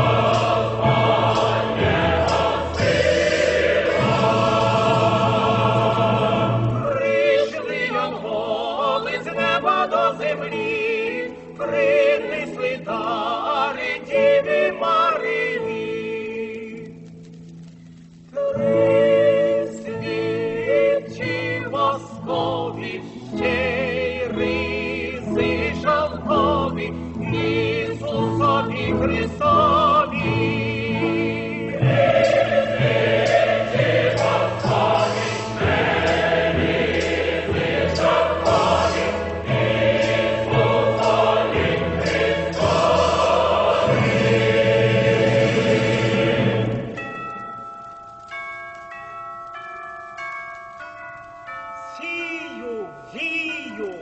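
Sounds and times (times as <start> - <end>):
choir singing a carol: 0.0 - 16.9, 18.4 - 47.6.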